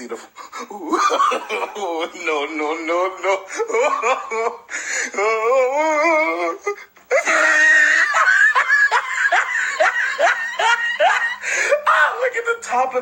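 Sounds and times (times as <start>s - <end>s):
man laughing hysterically: 0.7s - 12.2s.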